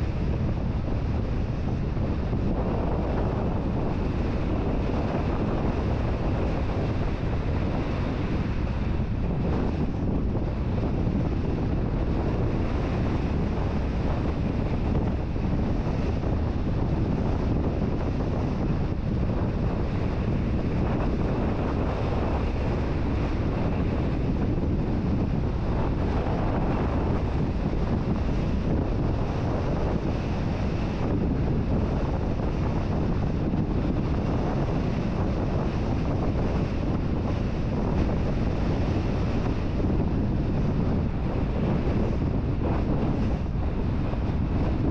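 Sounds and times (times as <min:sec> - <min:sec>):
road noise low rumble: 0:00.0 - 0:44.9
wind noise on microphone: 0:00.0 - 0:44.9.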